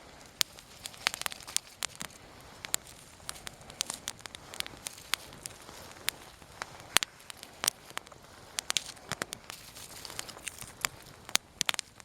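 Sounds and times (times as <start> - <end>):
campfire crackling and popping: 0.0 - 12.0
fire hissing: 0.0 - 12.0.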